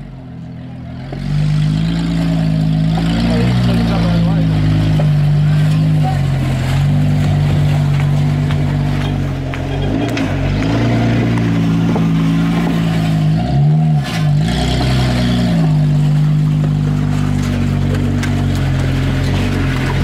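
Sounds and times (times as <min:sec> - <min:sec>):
car engine revving high: 0:01.0 - 0:20.0
tyres spinning: 0:01.0 - 0:20.0.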